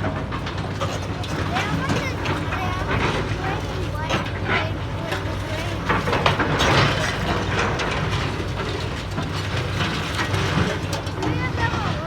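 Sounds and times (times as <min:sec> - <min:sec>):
excavator diesel engine running: 0:00.0 - 0:12.0
scrap metal clanking and scraping: 0:00.0 - 0:12.0.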